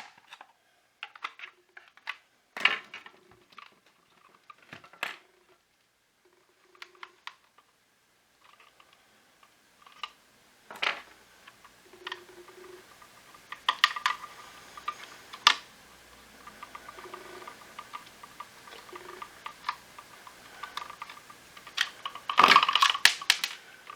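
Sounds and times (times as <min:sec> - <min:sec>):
plastic parts clicking and knocking: 0:00.0 - 0:05.6, 0:06.3 - 0:07.7, 0:08.4 - 0:23.9.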